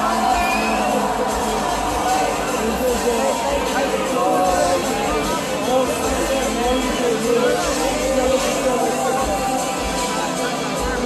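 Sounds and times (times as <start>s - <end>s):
large outdoor crowd noise: 0.0s - 11.0s
music over sound system: 0.0s - 11.0s.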